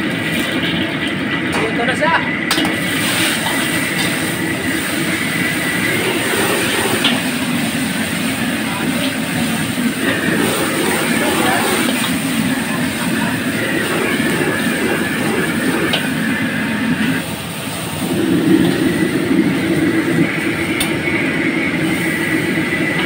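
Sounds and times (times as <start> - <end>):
gas burner rushing: 0.0 - 23.0
food sizzling in hot oil: 2.6 - 23.0.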